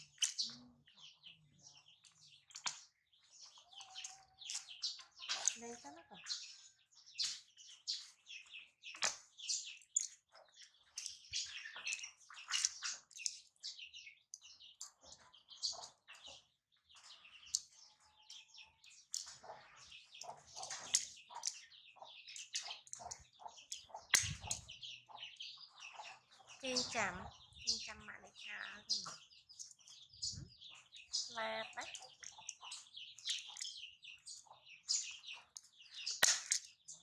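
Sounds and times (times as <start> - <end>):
small birds chirping and twittering: 0.0 - 37.0.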